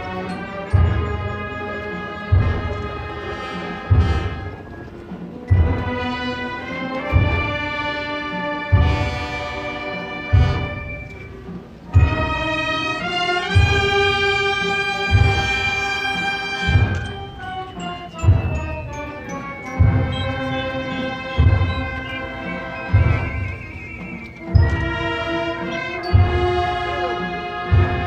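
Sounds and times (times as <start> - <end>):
brass band playing slow march: 0.0 - 28.0.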